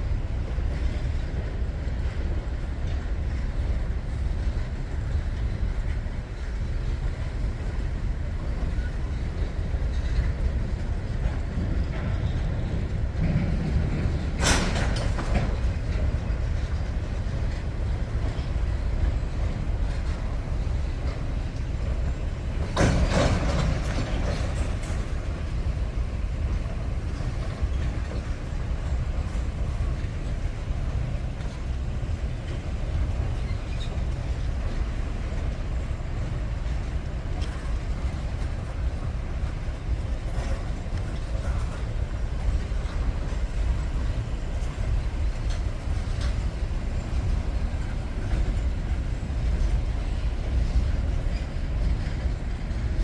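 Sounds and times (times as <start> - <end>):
heavy machinery engines rumbling: 0.0 - 53.0.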